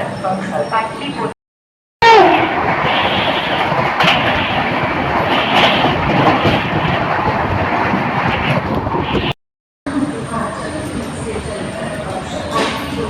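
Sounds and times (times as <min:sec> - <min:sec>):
train rumbling: 0:02.0 - 0:13.0.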